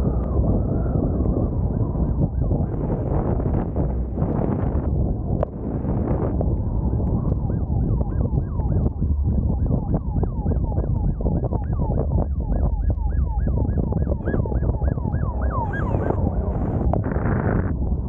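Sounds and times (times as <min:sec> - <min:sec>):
police siren wailing: 0:00.0 - 0:18.0
wind and road rumble: 0:00.0 - 0:18.0.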